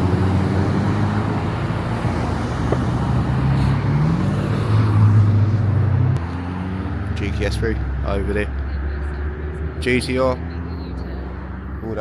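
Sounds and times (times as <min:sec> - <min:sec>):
car engines at low revs: 0:00.0 - 0:12.0.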